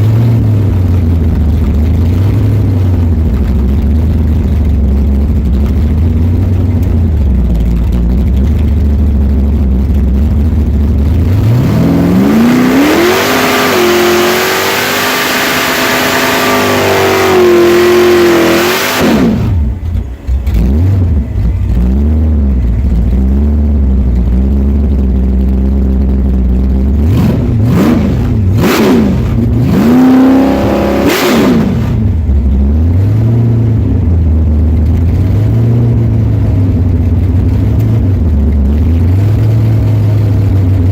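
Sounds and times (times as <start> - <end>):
supercharged car engine revving: 0.0 - 8.4, 9.8 - 25.5, 26.2 - 40.9.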